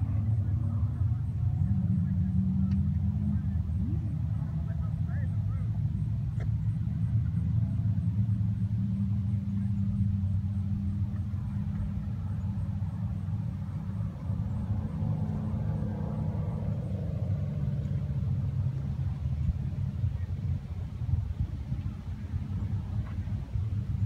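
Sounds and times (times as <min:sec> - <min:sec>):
higher engine note: 0:00.0 - 0:24.0
vehicle engine running: 0:00.0 - 0:24.0.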